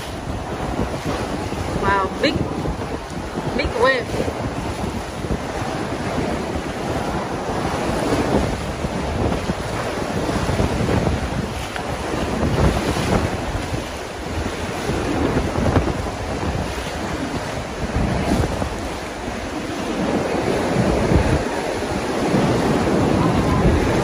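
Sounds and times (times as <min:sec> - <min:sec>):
water sloshing: 0:00.0 - 0:24.0
wind rumbling on microphone: 0:00.0 - 0:24.0.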